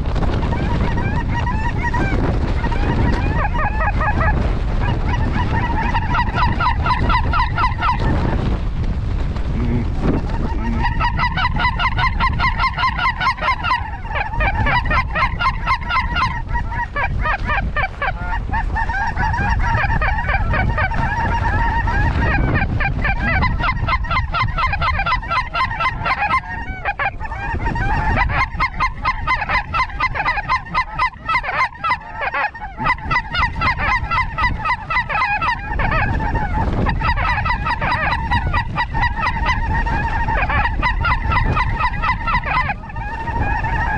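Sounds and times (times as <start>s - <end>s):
wind rumbling on microphone: 0.0s - 43.9s
geese honking: 0.4s - 8.4s, 9.6s - 43.9s.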